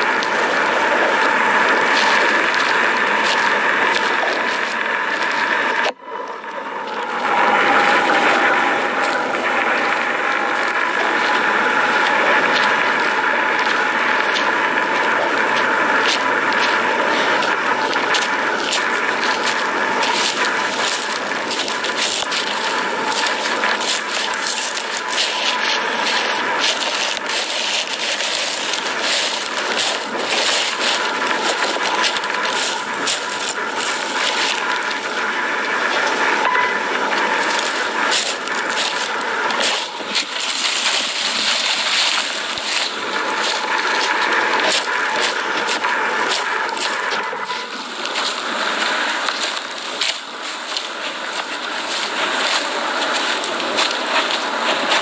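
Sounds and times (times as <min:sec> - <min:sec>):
jet-like roar: 0:00.0 - 0:55.0
steady tone: 0:00.0 - 0:55.0.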